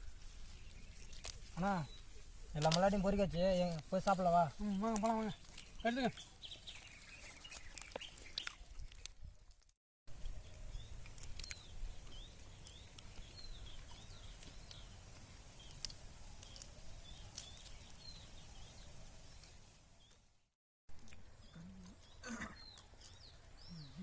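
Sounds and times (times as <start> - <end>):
small birds chirping: 0.0 - 9.3, 10.1 - 20.3, 21.0 - 24.0.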